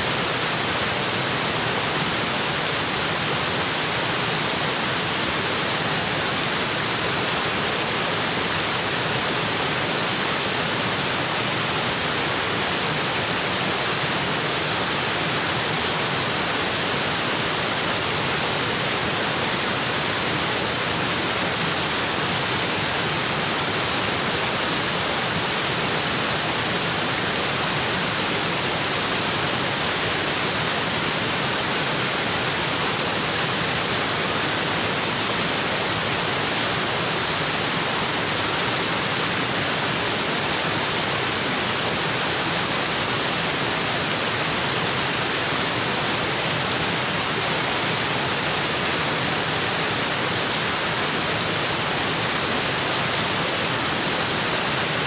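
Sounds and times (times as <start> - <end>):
waterfall onto rocks: 0.0 - 55.0.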